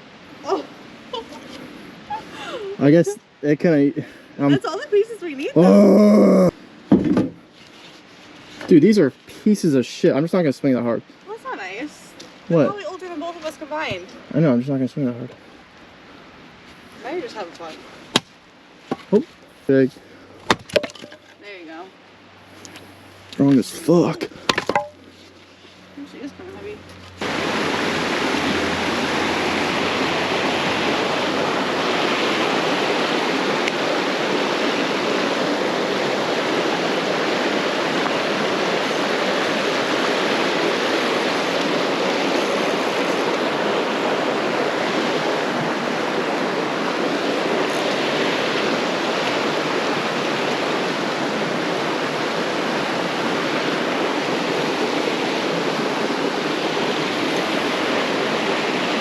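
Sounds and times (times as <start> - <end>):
creek water rushing: 0.0 - 6.9, 8.3 - 59.0.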